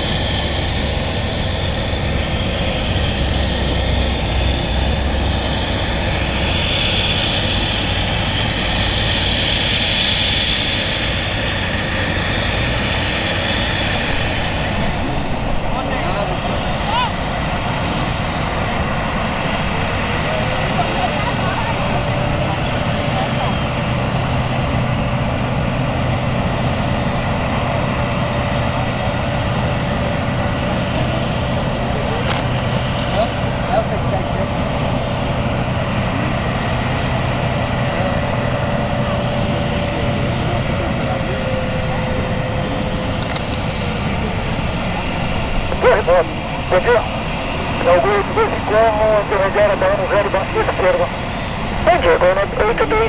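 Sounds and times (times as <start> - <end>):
jet engines rushing: 0.0 - 53.0.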